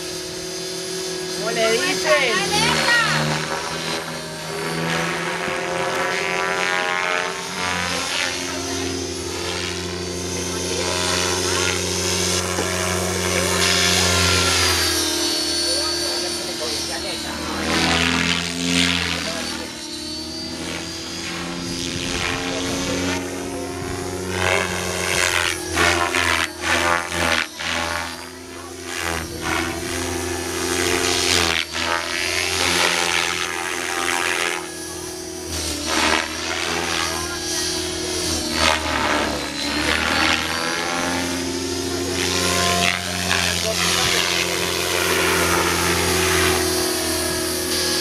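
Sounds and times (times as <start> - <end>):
rc helicopter rotor whooshing: 0.0 - 48.0.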